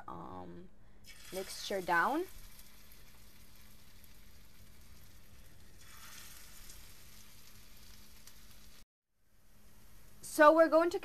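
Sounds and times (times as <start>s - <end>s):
oil sizzling in a frying pan: 1.0s - 11.0s.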